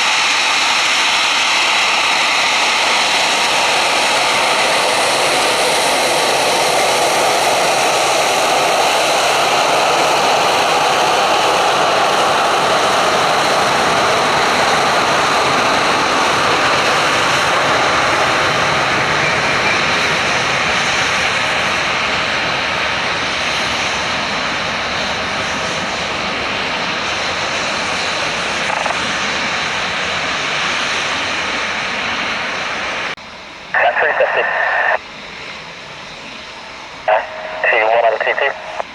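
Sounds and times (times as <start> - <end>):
jet engines rushing: 0.0 - 38.9.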